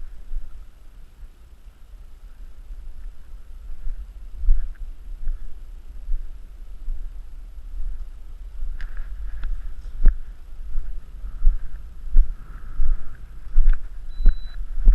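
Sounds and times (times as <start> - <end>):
faint higher hum: 0.0 - 14.9
wind buffeting microphone: 2.8 - 14.9.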